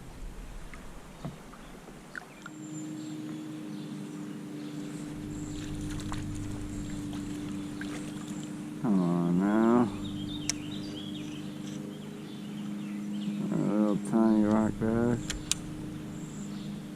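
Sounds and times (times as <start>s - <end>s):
motor droning steadily: 0.0s - 16.9s.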